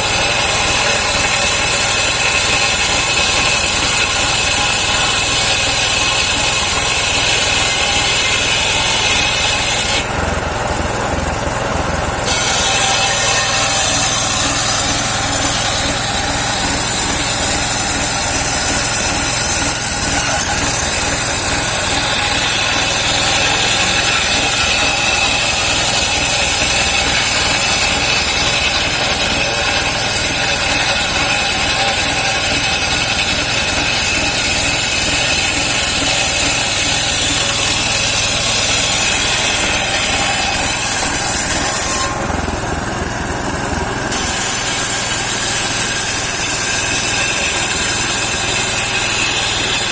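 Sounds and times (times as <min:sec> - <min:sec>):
circular saw blade whining: 0:00.0 - 0:49.9
engine running: 0:00.0 - 0:49.9.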